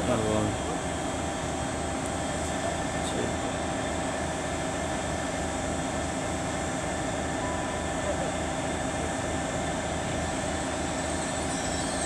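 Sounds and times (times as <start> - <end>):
diesel locomotive engine droning: 0.0 - 12.0.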